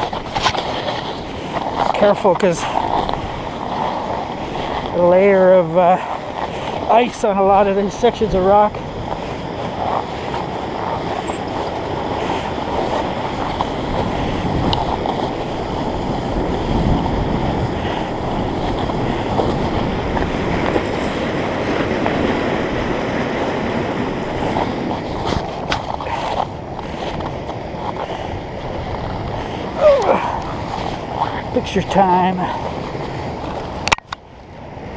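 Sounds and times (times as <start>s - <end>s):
river rapids rushing: 0.0s - 34.0s.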